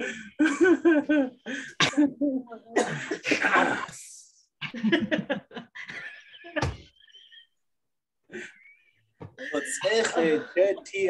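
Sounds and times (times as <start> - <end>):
people laughing over video call: 0.0 - 11.0.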